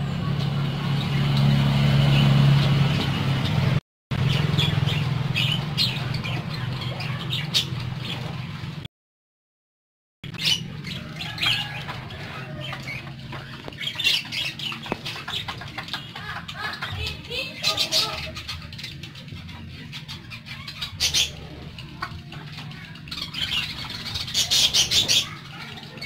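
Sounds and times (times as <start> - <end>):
budgerigars chirping and squawking: 0.1 - 8.7, 10.3 - 26.0.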